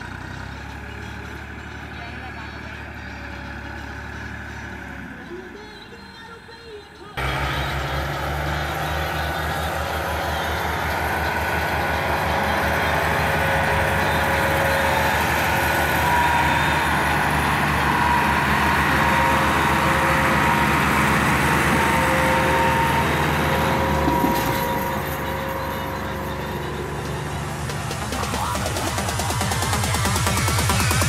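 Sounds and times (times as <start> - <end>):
diesel tractor engines under load: 0.0 - 31.0.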